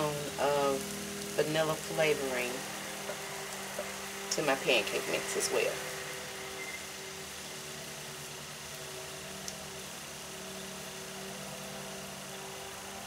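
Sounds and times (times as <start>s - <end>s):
even hiss: 0.0s - 13.0s
motor hum with steady tones: 0.0s - 13.0s.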